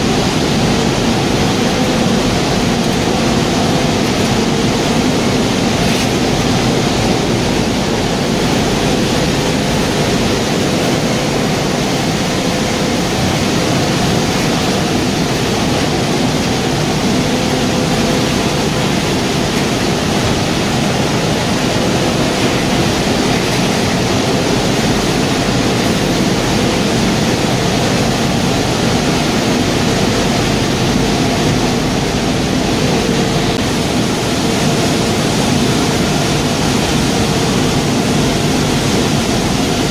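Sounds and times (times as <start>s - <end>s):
faint machinery hum: 0.0s - 39.9s
heavy machinery rushing noise: 0.0s - 39.9s.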